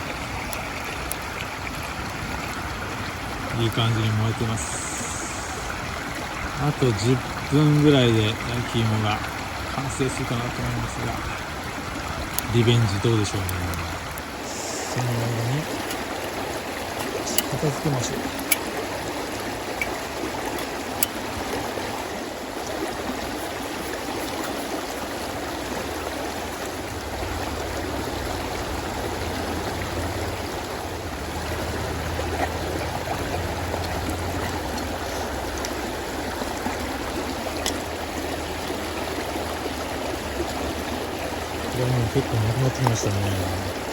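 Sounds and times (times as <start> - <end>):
flowing water: 0.0 - 43.9.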